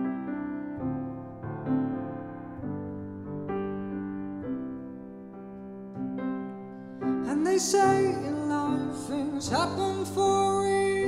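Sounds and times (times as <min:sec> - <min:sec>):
grand piano sustained chords: 0:00.0 - 0:11.0.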